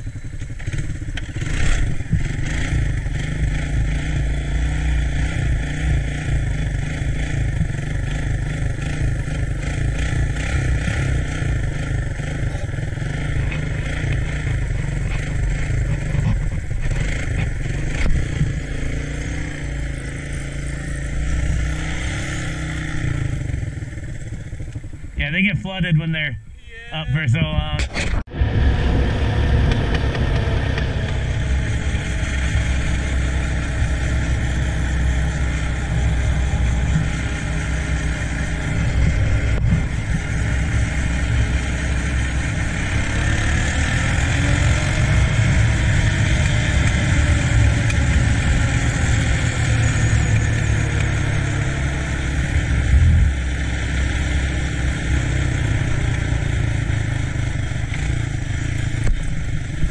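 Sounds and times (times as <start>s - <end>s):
three-wheeler engine running: 0.0s - 59.9s.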